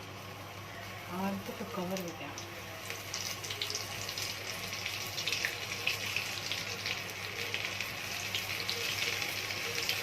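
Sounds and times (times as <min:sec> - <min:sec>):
shrimp deep-frying in hot oil: 0:00.0 - 0:10.0.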